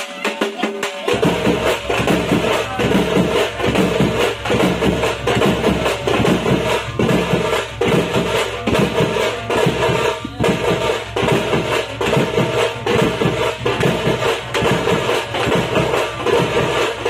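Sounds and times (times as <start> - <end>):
bass drums booming: 1.1 - 17.0.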